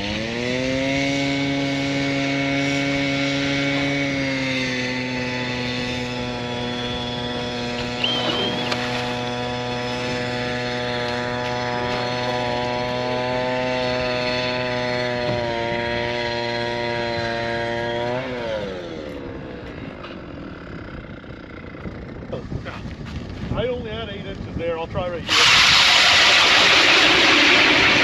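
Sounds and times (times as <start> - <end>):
small gasoline engine revving: 0.0 - 22.5, 25.2 - 28.0.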